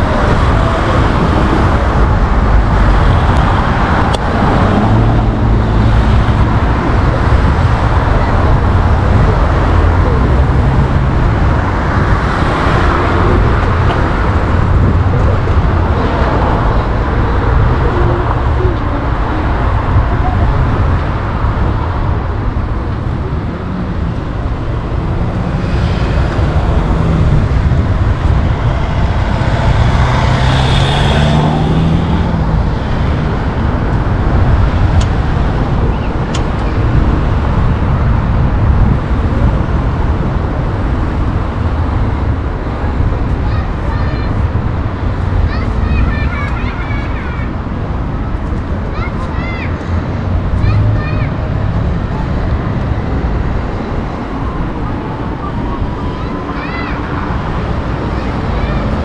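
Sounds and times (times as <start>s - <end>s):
city street traffic: 0.0s - 59.0s.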